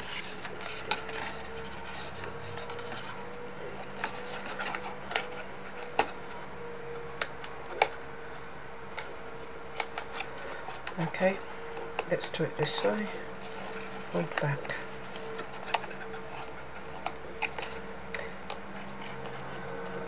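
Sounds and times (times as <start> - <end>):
cardstock rustling: 0.0 - 20.0
faint steady hum: 0.0 - 20.0.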